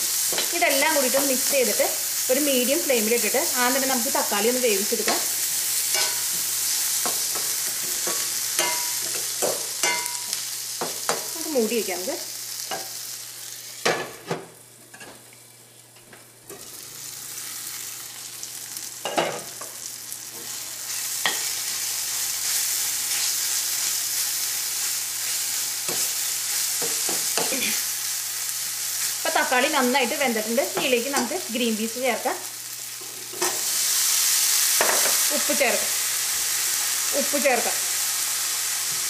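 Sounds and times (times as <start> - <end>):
vegetables sizzling in hot oil: 0.0 - 39.0.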